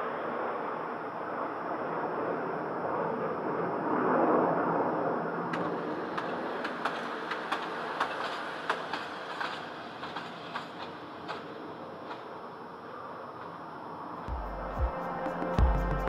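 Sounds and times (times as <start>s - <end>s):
jet roar: 0.0s - 16.0s.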